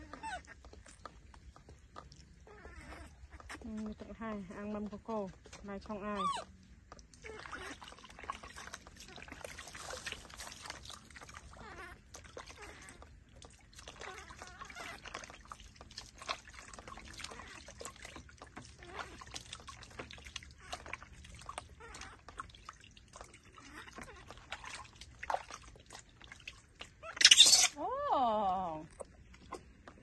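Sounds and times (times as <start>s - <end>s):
water splashing in a basin: 0.0s - 30.0s.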